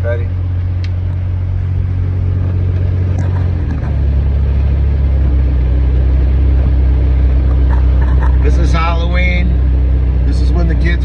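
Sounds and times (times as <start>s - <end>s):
car engine and road drone: 0.0s - 11.0s.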